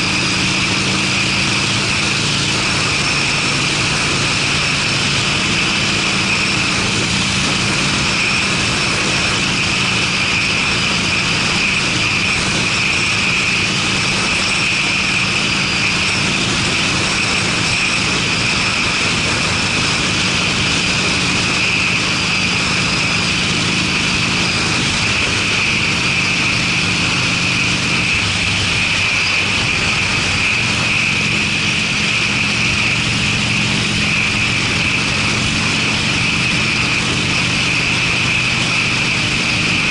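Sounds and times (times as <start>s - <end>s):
motorcycle exhaust at road speed: 0.0s - 39.9s
wind and road noise: 0.0s - 39.9s.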